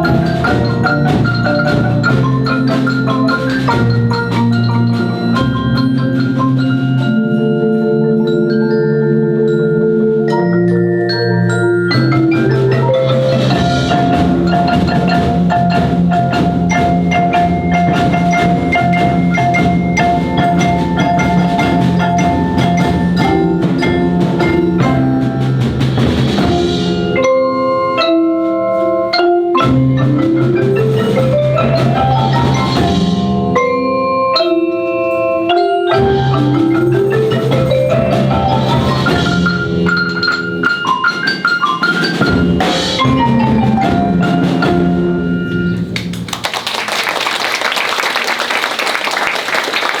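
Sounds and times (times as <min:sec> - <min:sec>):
marimba ensemble playing: 0:00.0 - 0:46.4.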